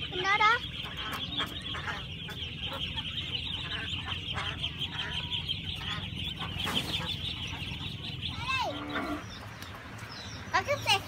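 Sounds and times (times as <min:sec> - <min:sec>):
adult ducks calling: 0:00.0 - 0:11.0.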